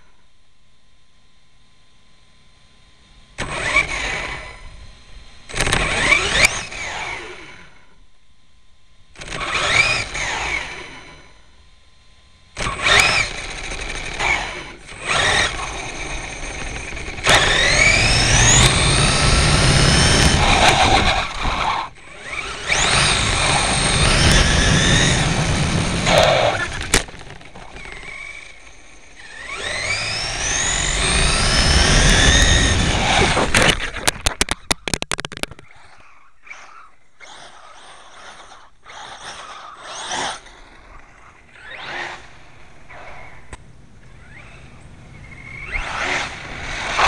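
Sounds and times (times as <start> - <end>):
electric motor whining: 3.4 - 8.0, 9.1 - 11.5, 12.5 - 47.0.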